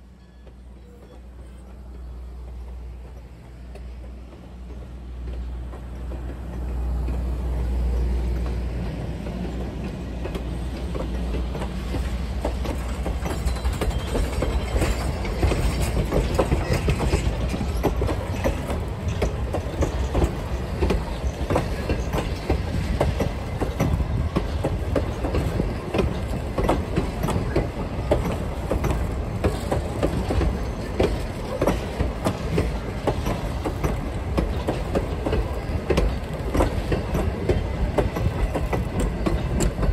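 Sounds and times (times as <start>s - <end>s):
low train rumble: 0.0s - 39.9s
train wheels clattering over rail joints: 0.3s - 39.9s.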